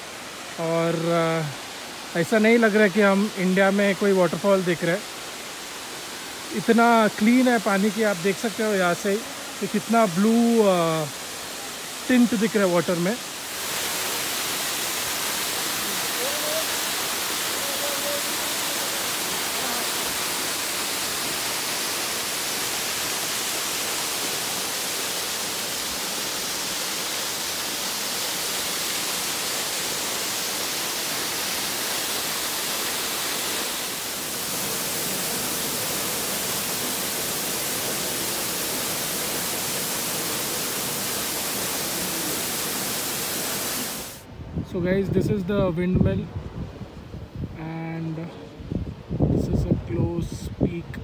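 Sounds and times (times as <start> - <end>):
waterfall hissing onto rocks: 0.0 - 44.3.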